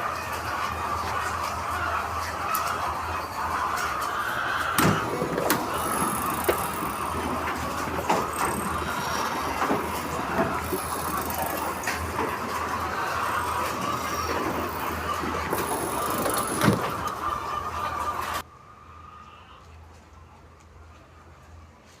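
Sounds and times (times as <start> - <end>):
flock of chickens clucking: 0.0 - 21.3.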